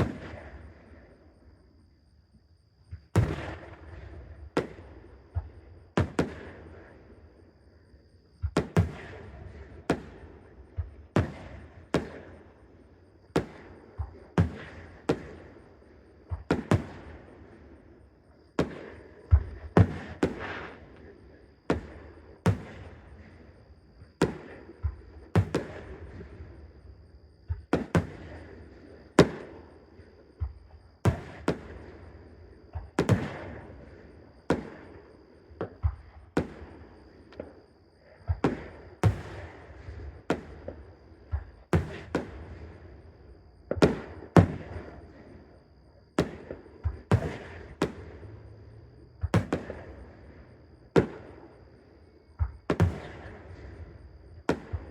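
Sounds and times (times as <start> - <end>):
fireworks shells booming: 2.9 - 6.8, 8.4 - 12.5, 13.2 - 17.5, 18.6 - 26.7, 27.5 - 37.6, 38.2 - 43.1, 43.7 - 45.4, 46.2 - 51.6, 52.4 - 54.9.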